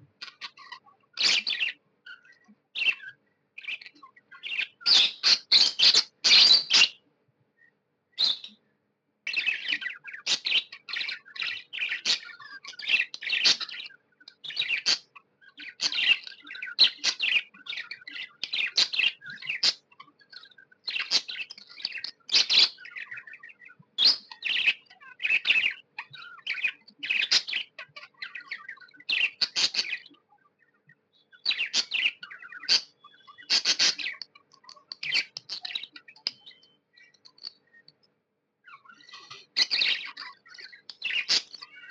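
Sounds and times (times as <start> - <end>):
budgerigar chirping: 0.2 - 7.0, 8.2 - 8.6, 9.3 - 30.3, 31.3 - 37.6, 38.7 - 41.9.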